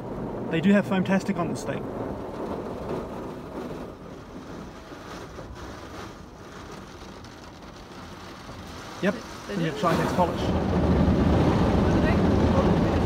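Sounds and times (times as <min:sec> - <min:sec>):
car wash spraying foam muffled: 0:00.0 - 0:13.0.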